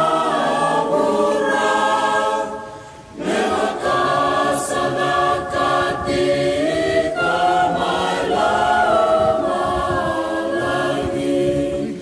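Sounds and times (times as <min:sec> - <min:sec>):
choir singing a hymn: 0:00.0 - 0:12.0.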